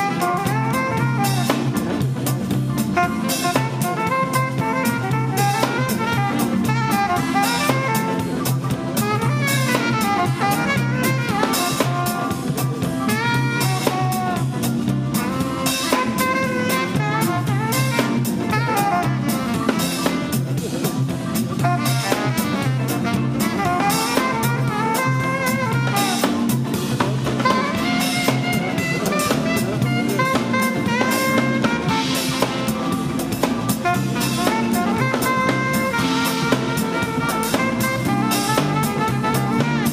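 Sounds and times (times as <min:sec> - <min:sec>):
alto saxophone solo: 0:00.0 - 0:39.9
drum kit groove: 0:00.0 - 0:39.9
electric bass line: 0:00.0 - 0:39.9.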